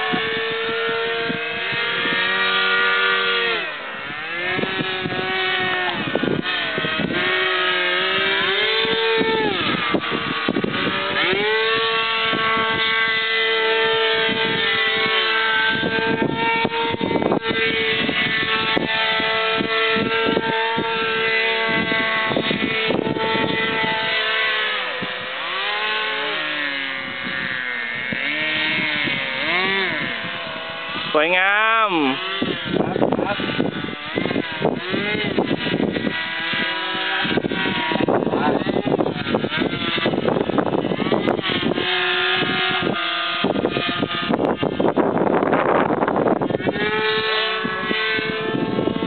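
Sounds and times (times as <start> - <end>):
model aircraft motors buzzing: 0.0 - 49.0.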